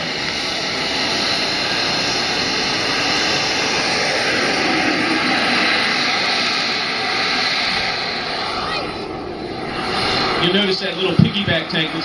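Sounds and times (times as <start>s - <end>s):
model jet turbine engine running: 0.0s - 12.0s.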